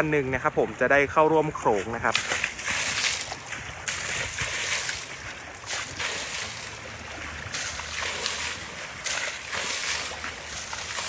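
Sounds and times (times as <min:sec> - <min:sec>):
water splashing around elephant legs: 0:00.0 - 0:11.0.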